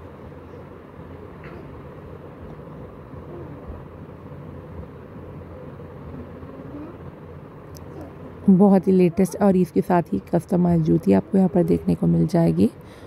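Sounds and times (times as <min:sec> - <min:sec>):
low room hum: 0:00.0 - 0:13.0
faint distant voices: 0:00.2 - 0:12.8.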